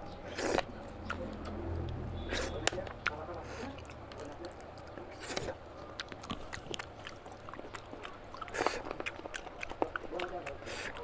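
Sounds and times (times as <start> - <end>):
person chewing and smacking: 0.0 - 11.0.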